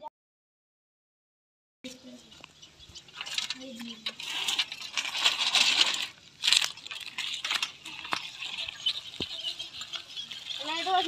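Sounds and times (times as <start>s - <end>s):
bicycle rattling and clicking: 2.0s - 11.0s.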